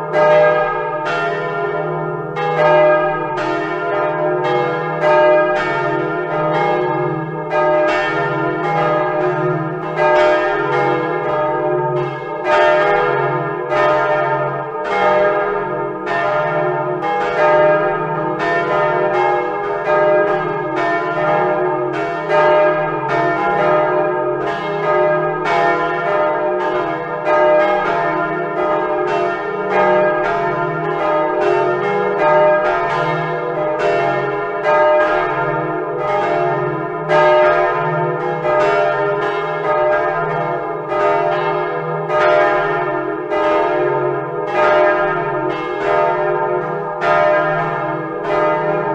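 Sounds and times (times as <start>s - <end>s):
church bells pealing: 0.0s - 48.9s.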